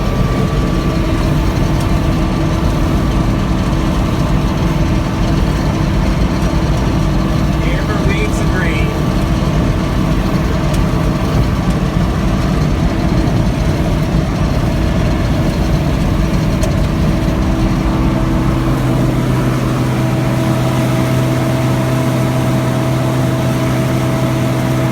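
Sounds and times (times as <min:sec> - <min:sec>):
farm machinery engine running: 0:00.0 - 0:24.9.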